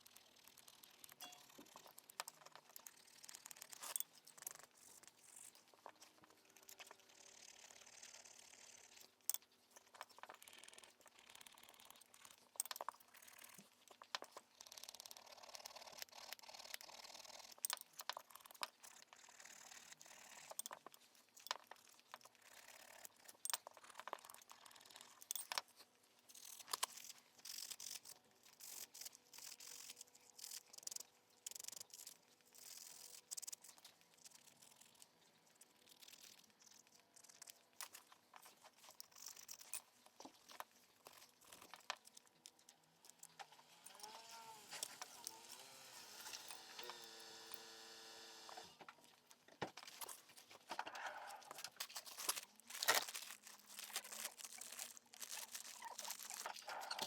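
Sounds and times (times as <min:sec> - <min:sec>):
hands handling small parts: 0:00.0 - 0:07.1, 0:08.9 - 0:45.6, 0:48.8 - 0:57.0.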